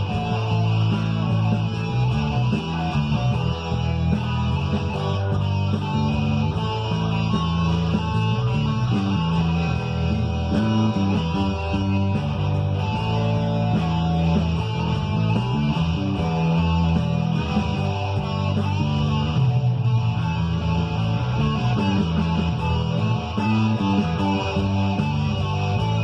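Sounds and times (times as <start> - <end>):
electric guitar: 0.0 - 26.0
rock backing track with bass: 0.0 - 26.0.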